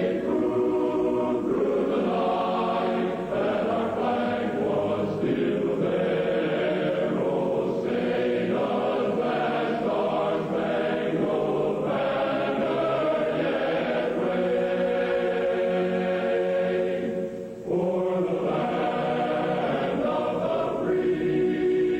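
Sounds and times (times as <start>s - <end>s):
choir singing sustained chords: 0.0s - 21.9s.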